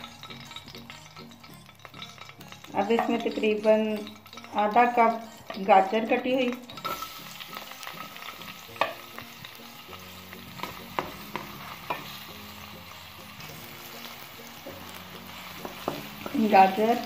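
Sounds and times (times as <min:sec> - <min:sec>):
carrots sizzling in oil: 0:00.0 - 0:17.0.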